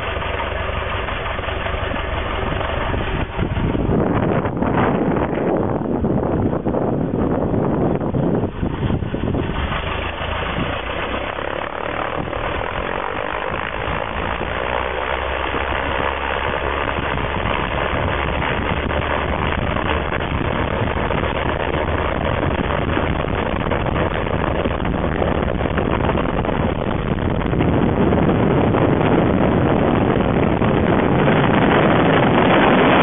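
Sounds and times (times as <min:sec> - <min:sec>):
propeller engine running: 0:00.0 - 0:33.0.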